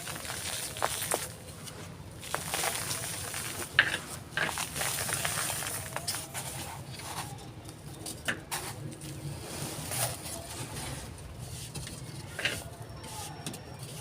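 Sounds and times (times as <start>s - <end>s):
dry material crumbled by hand: 0.0s - 11.2s.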